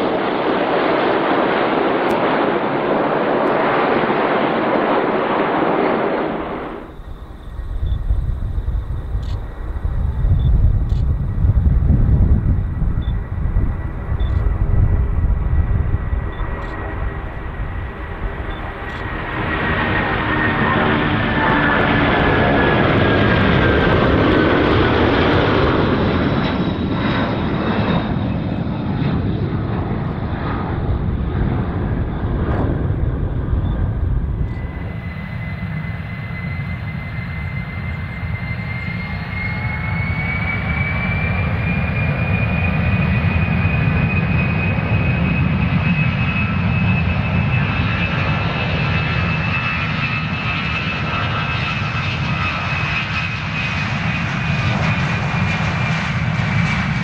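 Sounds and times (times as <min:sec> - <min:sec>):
jet engines rumbling and whining: 0:00.0 - 0:57.0
whine climbing in pitch: 0:06.0 - 0:54.0.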